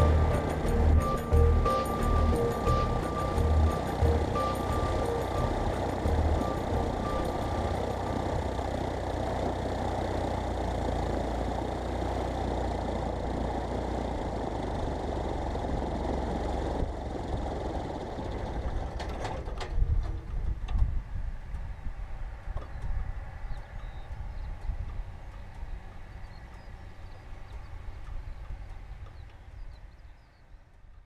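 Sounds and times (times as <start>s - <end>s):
aircraft engine idling: 0.0s - 19.7s, 22.7s - 31.0s.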